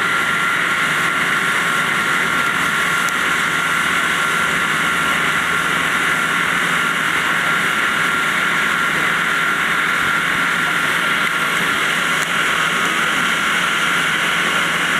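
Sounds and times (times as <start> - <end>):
wire saw cutting stone: 0.0 - 14.9.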